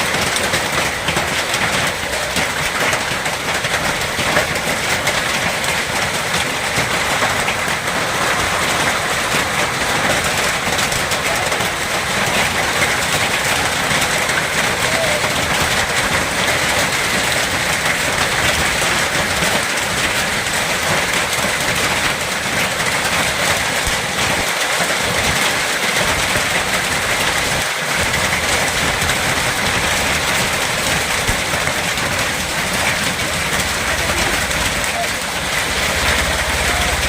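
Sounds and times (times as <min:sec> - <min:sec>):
hailstones and rain pelting: 0:00.0 - 0:37.0.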